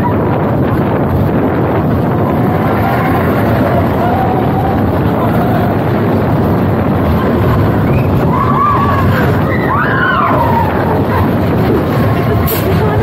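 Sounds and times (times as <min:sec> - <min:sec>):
roller coaster rumbling on track: 0:00.0 - 0:13.0
wind on microphone: 0:00.0 - 0:13.0.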